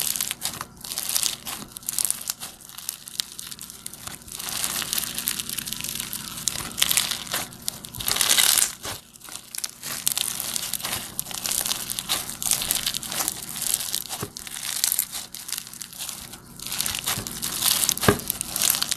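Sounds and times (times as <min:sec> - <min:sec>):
foam slime crackling and crunching: 0:00.0 - 0:18.9.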